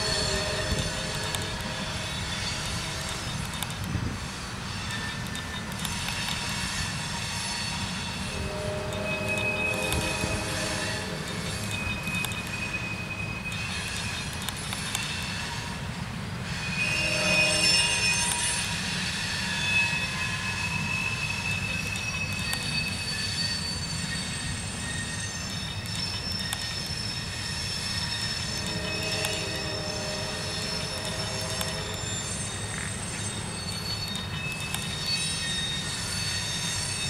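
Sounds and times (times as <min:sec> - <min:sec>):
high-pitched wheel squeal: 0:00.0 - 0:37.0
steel wheels rumbling on rail: 0:00.0 - 0:37.0.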